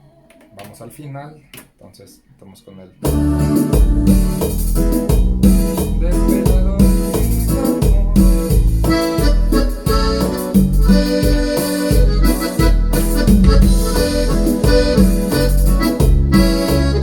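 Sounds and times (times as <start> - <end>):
keyboard accompaniment beat: 3.0 - 17.0
keyboard chords and melody: 3.1 - 17.0.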